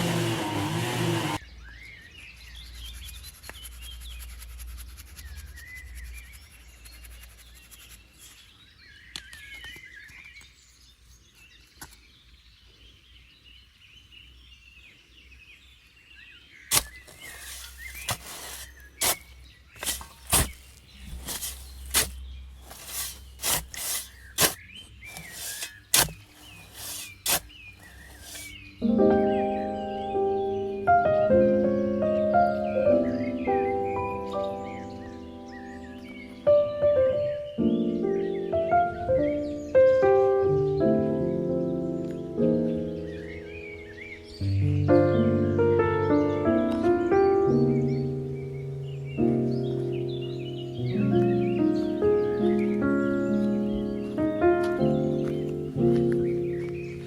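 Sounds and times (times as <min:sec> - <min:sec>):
birds chirping: 0:00.1 - 0:57.0.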